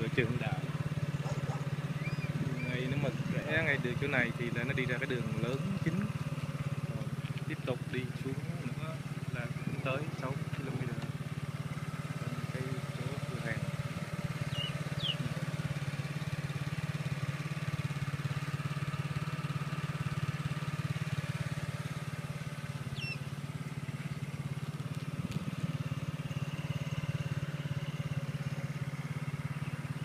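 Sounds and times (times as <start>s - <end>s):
small motorbike engine running: 0.0s - 30.0s.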